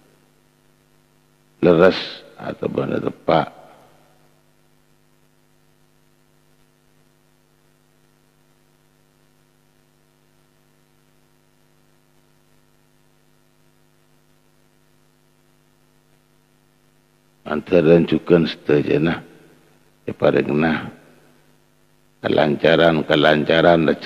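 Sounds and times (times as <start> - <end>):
faint mains hum: 0.0 - 24.0.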